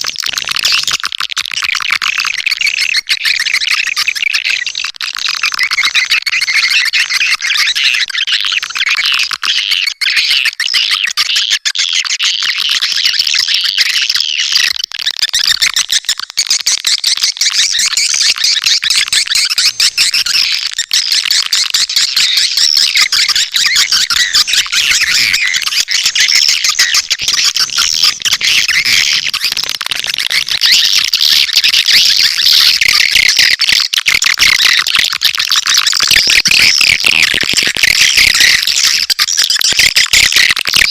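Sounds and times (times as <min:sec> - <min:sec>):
swiftlets chirping and twittering: 0:00.0 - 0:40.9.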